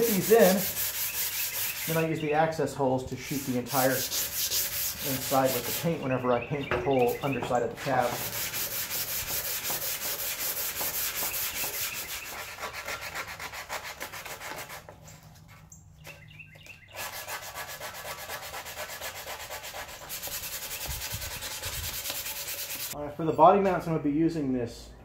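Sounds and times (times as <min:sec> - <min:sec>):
hand scuffing sheet metal: 0:00.0 - 0:02.6, 0:03.2 - 0:16.2, 0:17.0 - 0:23.0.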